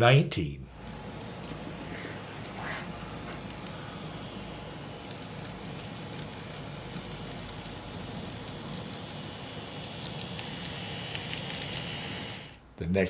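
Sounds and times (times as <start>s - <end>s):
model train wheels rattling on rail: 0.8s - 12.6s.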